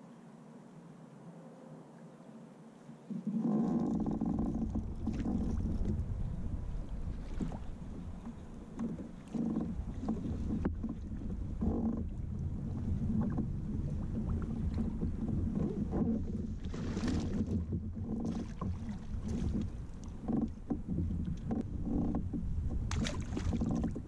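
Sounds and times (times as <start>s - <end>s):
wind buffeting microphone: 3.8s - 24.0s.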